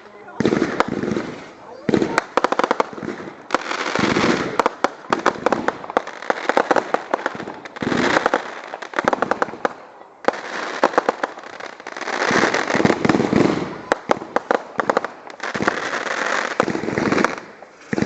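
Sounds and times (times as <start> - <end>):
fireworks bangs and cracks: 0.0 - 18.0.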